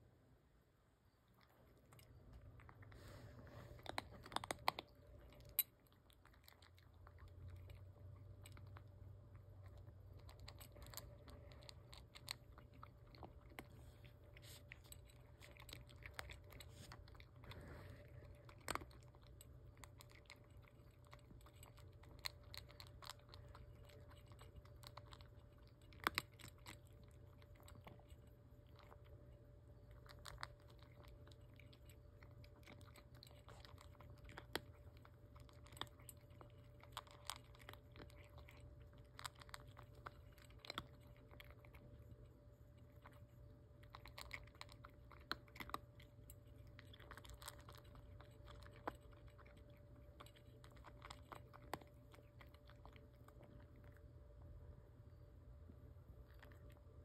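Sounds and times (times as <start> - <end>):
cat crunching dry kibble: 1.2 - 54.6, 56.0 - 57.0.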